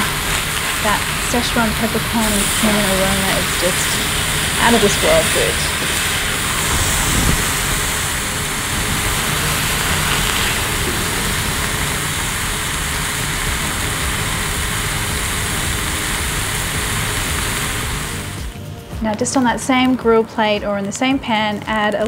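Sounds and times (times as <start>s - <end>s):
burger patties sizzling: 0.0s - 22.0s.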